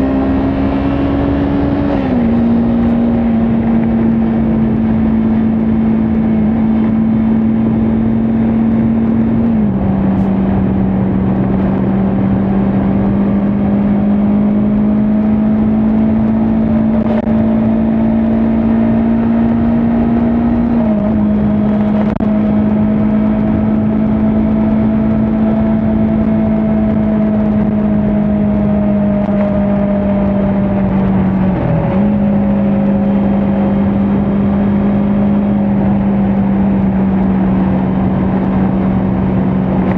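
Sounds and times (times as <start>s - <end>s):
motorcycle engine cruising: 0.0s - 39.9s
wind and road rush: 0.0s - 39.9s.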